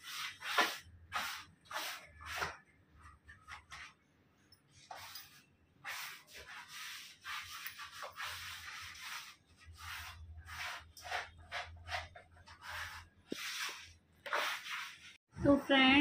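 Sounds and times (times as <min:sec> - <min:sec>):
hands rubbing wallpaper on wall: 0:00.0 - 0:04.1, 0:04.7 - 0:15.2.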